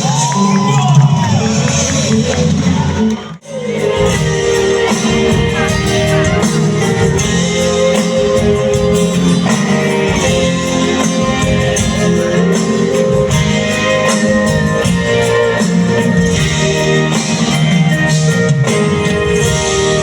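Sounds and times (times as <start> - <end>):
electric guitar: 0.0 - 20.0
live band playing instrumental: 0.0 - 20.0.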